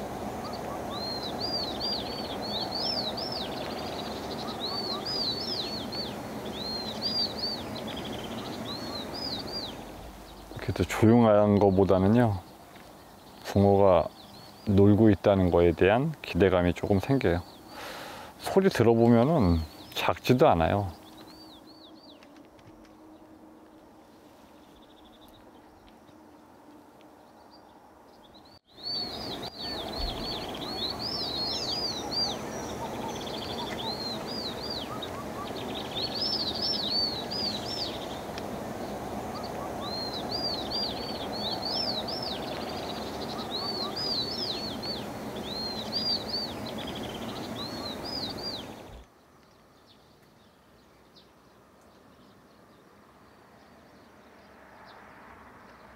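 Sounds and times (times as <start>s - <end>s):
outdoor background haze: 0.0s - 55.9s
small birds chirping: 0.0s - 55.9s.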